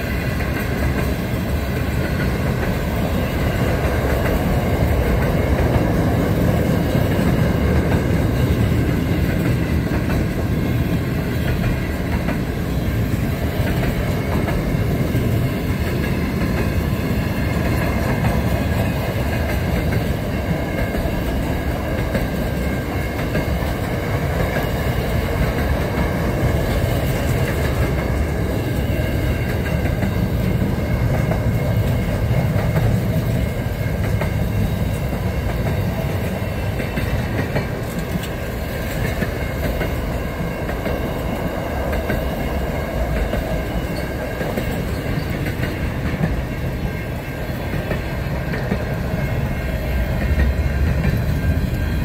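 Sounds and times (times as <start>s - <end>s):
freight train wheels clattering: 0.0s - 52.0s.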